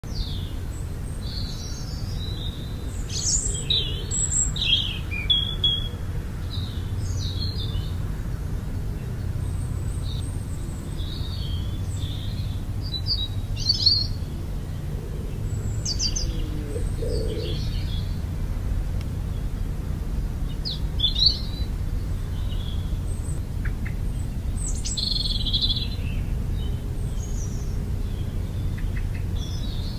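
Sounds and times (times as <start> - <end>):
birds chirping and twittering: 0.0 - 29.9
steady low rumble: 0.1 - 29.9.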